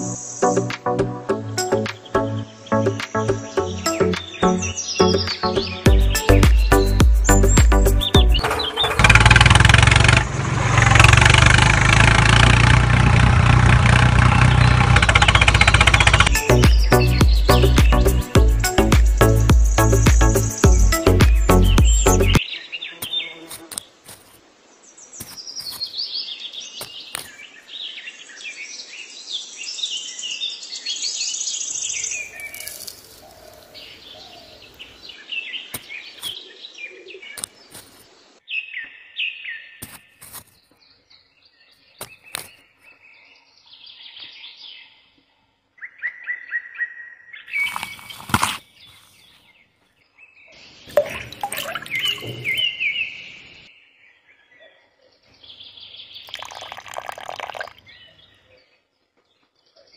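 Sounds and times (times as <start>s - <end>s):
small birds twittering: 1.6s - 10.2s, 13.9s - 45.2s, 45.8s - 59.9s.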